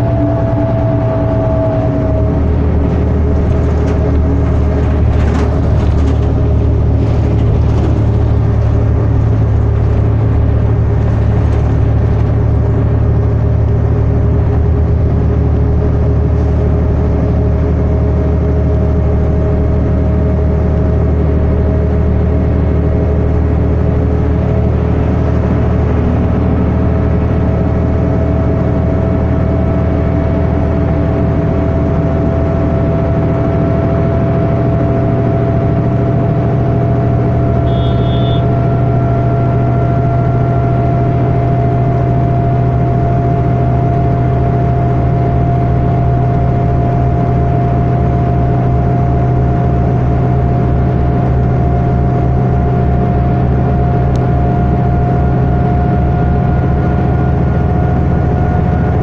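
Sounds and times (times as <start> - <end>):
bus engine drone: 0.0 - 59.0
steady transmission whine: 0.0 - 59.0.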